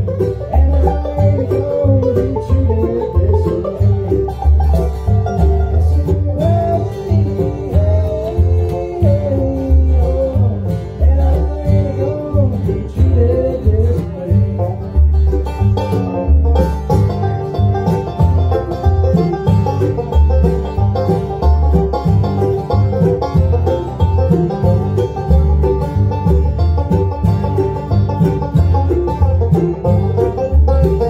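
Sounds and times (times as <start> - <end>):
acoustic guitar: 0.0 - 31.0
banjo: 0.0 - 31.0
mandolin melody: 0.0 - 31.0
upright bass line: 0.0 - 31.0.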